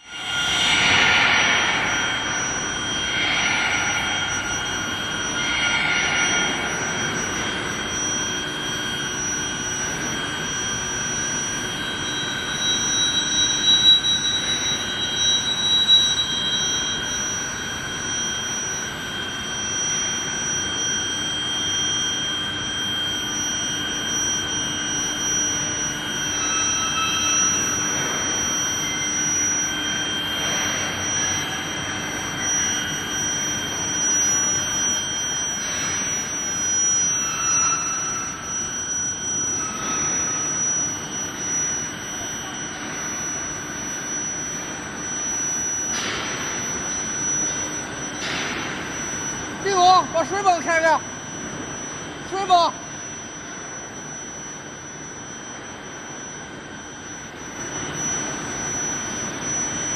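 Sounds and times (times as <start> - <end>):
high-pitched machine whine: 0.0 - 59.9.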